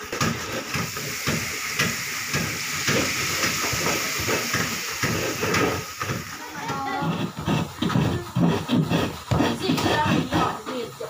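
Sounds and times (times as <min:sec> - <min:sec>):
coconut milk sizzling in a wok: 0:00.0 - 0:11.0.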